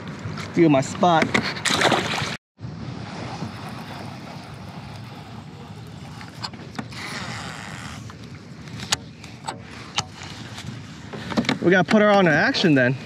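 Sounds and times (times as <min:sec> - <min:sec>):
wind noise on microphone: 0:01.2 - 0:12.0.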